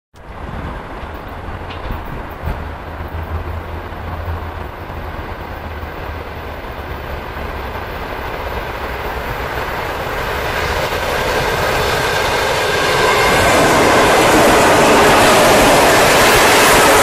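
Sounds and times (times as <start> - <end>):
electric train rolling on track: 0.2 - 17.0.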